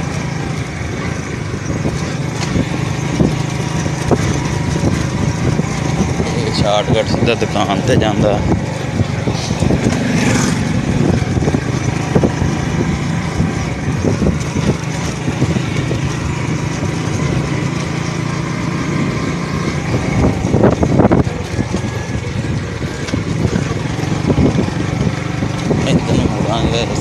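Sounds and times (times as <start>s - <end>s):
loud clatter: 0.0s - 27.0s
motorcycle engine running: 0.0s - 27.0s
wind noise on microphone: 0.0s - 27.0s.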